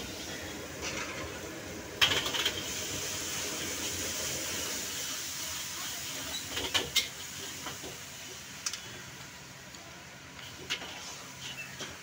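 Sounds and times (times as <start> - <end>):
frying hiss in wok: 0.0 - 12.0.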